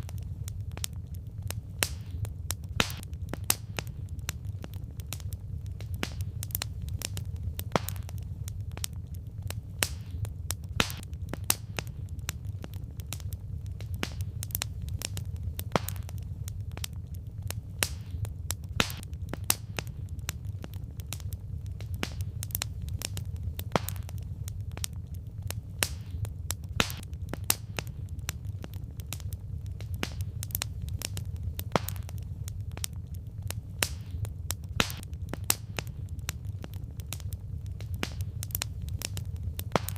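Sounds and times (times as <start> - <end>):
burning logs popping and snapping: 0.0 - 39.9
low rumble of flames: 0.0 - 39.9.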